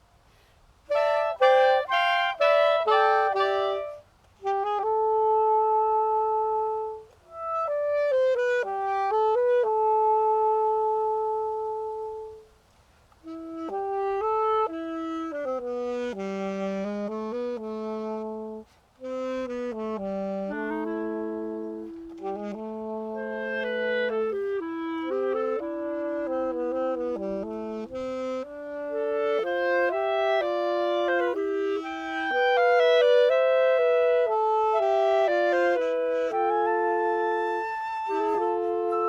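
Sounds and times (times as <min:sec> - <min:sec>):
woodwind trio playing in harmony: 0:00.0 - 0:39.0.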